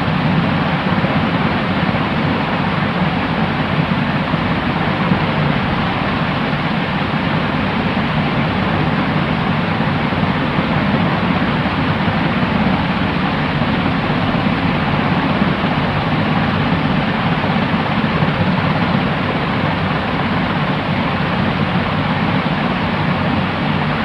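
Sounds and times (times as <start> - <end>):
white noise hiss: 0.0 - 24.0.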